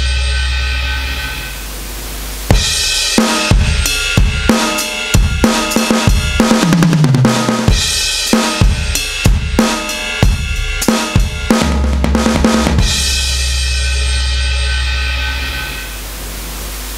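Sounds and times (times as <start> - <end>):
electronic drum kit groove: 0.0 - 16.4
steady low hum: 0.0 - 16.9.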